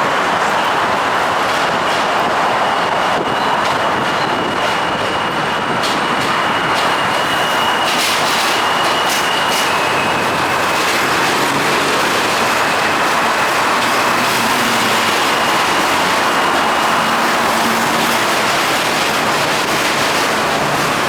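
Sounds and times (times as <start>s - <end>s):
subway train rumbling on rails: 0.0s - 21.0s.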